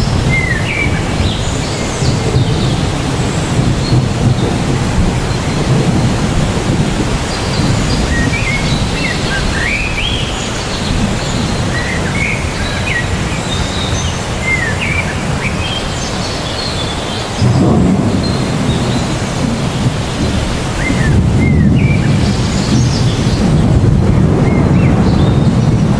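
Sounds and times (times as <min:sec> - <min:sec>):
thunder rumble: 0:00.0 - 0:15.5, 0:17.2 - 0:25.9
birds chirping: 0:00.0 - 0:25.9
heavy rain on a tree: 0:00.0 - 0:25.9.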